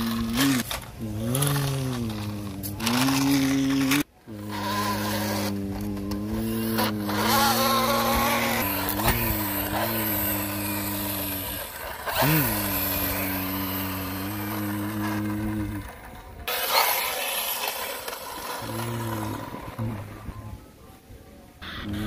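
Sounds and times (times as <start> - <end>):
truck engine idling and revving: 0.0 - 20.6.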